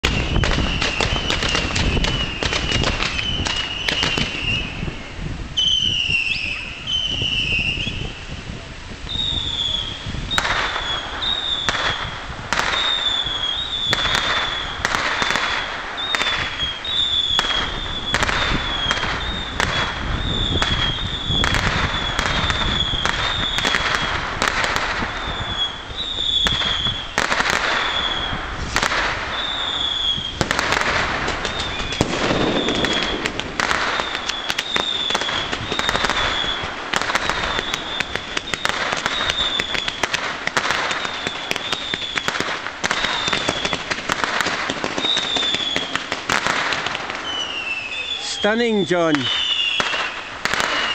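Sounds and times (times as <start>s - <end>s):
firework whistles: 0.0s - 50.9s
fireworks hissing and crackling: 0.0s - 50.9s.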